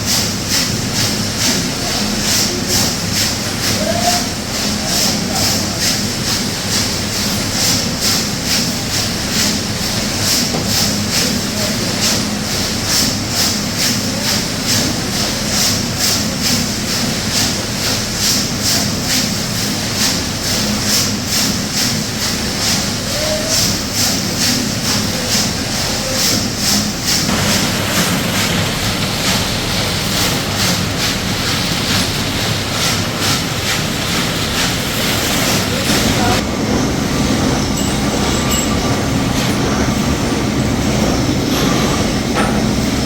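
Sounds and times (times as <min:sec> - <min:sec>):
workshop machinery running: 0:00.0 - 0:43.0.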